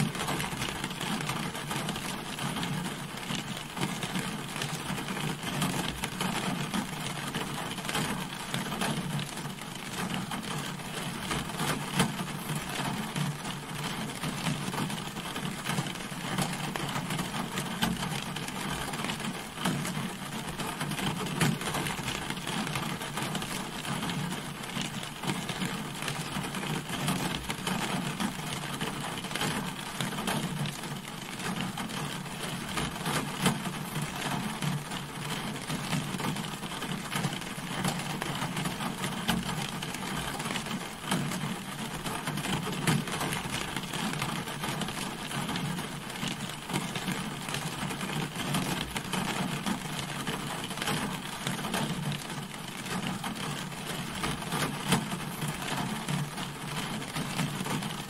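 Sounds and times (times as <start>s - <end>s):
rain falling on a car: 0.0s - 58.0s.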